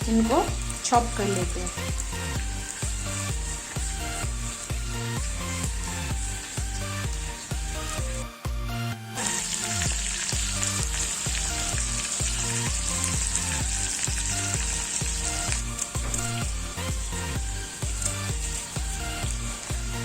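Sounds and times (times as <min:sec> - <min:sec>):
food sizzling in oil: 0:00.0 - 0:08.3, 0:09.1 - 0:20.0
background music with bass beat: 0:00.0 - 0:20.0.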